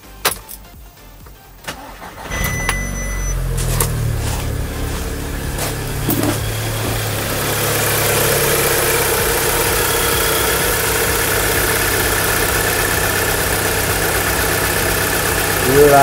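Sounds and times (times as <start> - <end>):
car engine idling: 1.4 - 16.0.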